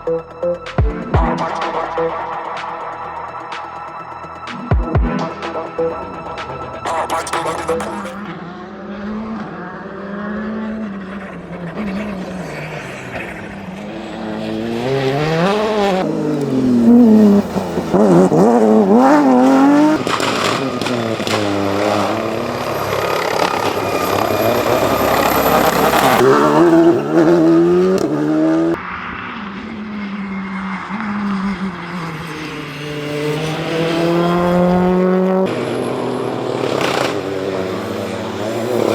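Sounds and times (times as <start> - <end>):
rally car engine accelerating: 0.9 - 38.9.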